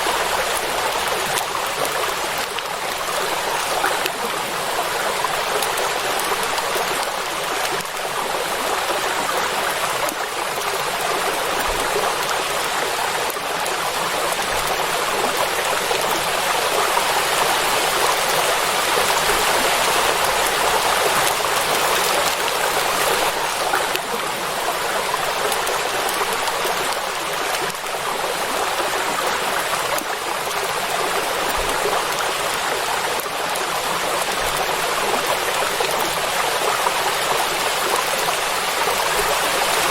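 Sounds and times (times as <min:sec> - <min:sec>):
rain falling on a lake: 0:00.0 - 0:39.9.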